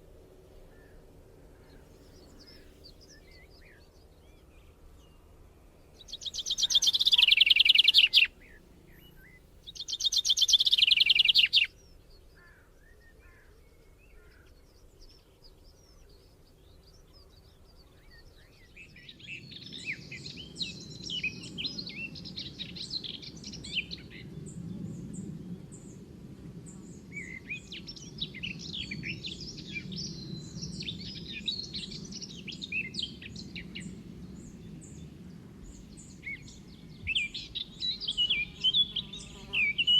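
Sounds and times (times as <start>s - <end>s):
many birds chirping: 1.6s - 26.1s, 26.7s - 39.9s.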